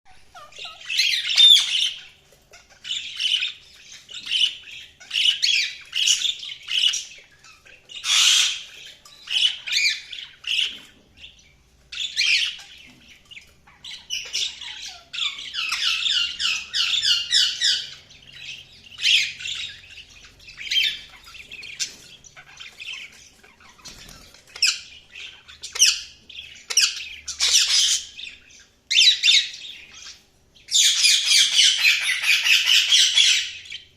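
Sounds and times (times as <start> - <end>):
budgerigars chirping and warbling: 0.1 - 33.9.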